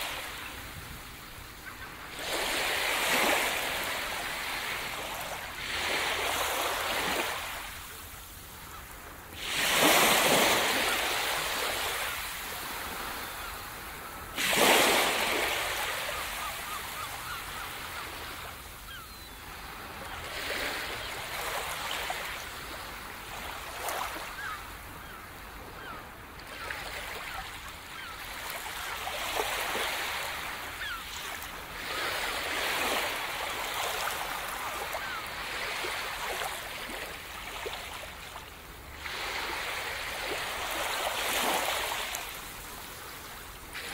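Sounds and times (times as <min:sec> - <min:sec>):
small waves breaking on sand: 0:00.0 - 0:43.9.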